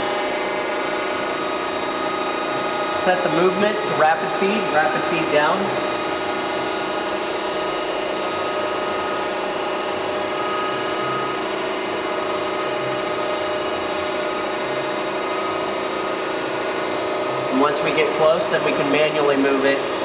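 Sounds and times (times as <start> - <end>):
grinder machine hum and whine: 0.0 - 20.0.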